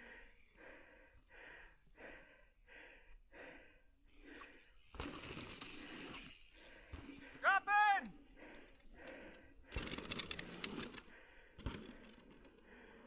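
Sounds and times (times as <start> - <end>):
person breathing hard: 0.0 - 7.5, 8.1 - 13.0.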